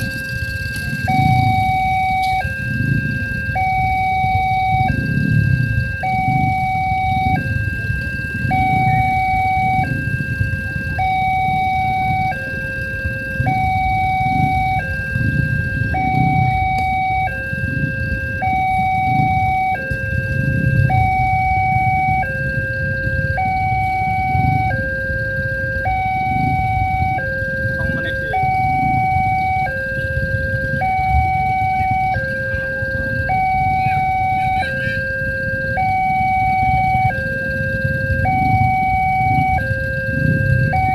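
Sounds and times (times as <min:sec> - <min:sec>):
low rumble: 0:00.0 - 0:40.9
two-tone level crossing alarm: 0:00.0 - 0:40.9.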